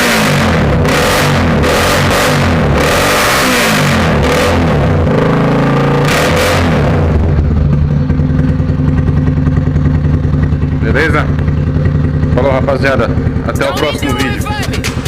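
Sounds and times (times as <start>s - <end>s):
motorcycle revving and idling: 0.0s - 15.0s.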